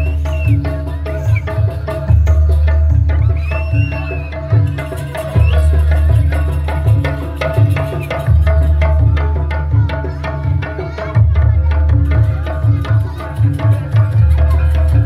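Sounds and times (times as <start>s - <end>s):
deep low drum stroke: 0.0s - 15.0s
hand drums beating: 0.0s - 15.0s.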